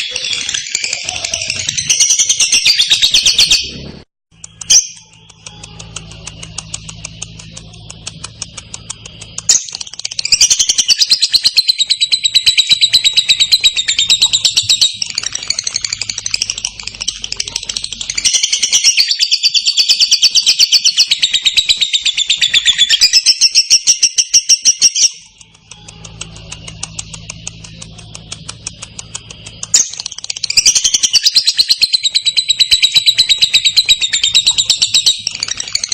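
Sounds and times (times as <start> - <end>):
bird chattering trill: 0.0 - 3.7, 4.4 - 35.9.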